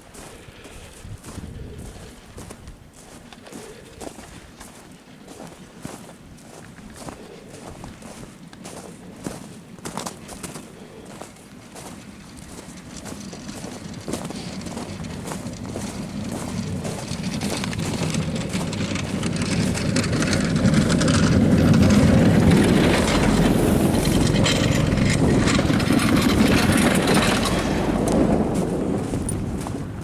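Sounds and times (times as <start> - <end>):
vehicle passing slowly: 3.9 - 30.0.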